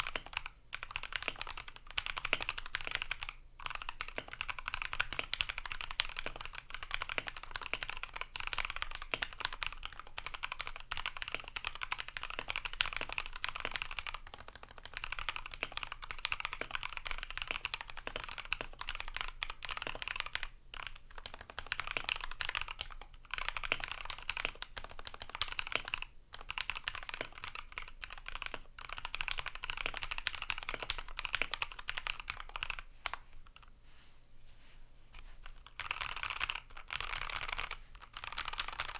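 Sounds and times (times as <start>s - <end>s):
fast mechanical keyboard typing: 0.0s - 32.9s, 35.6s - 38.9s.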